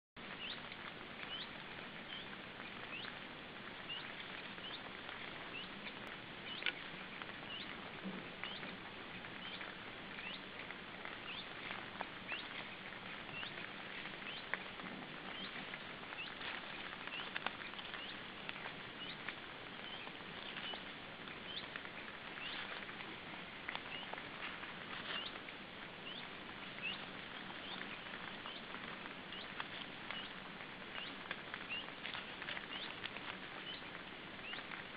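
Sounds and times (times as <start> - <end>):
steady hiss: 0.2 - 34.9.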